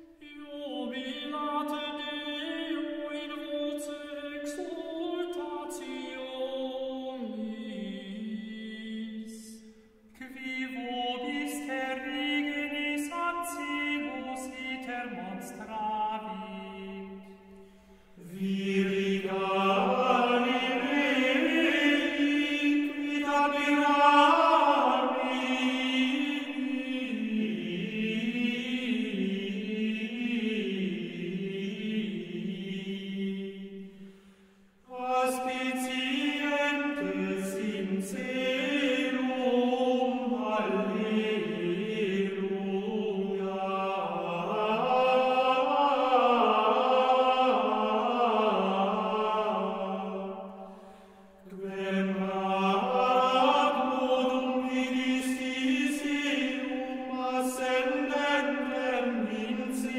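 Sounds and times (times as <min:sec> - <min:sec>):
vocal ensemble chanting: 0:00.0 - 0:59.9.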